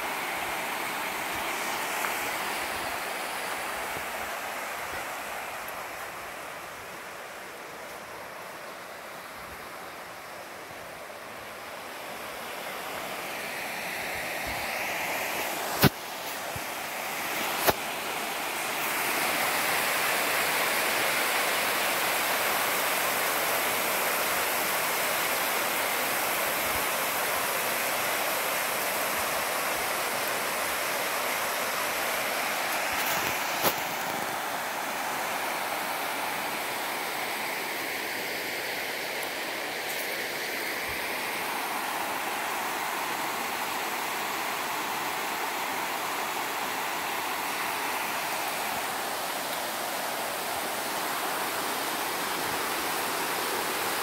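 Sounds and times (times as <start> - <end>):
water rushing over a weir: 0.0 - 54.0.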